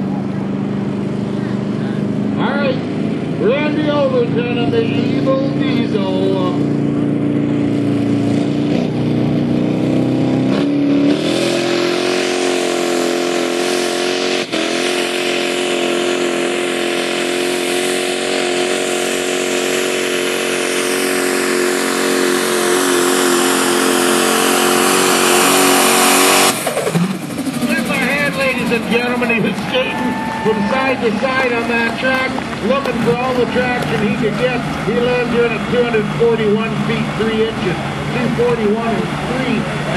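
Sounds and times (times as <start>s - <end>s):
diesel engine at full throttle: 0.0s - 39.9s.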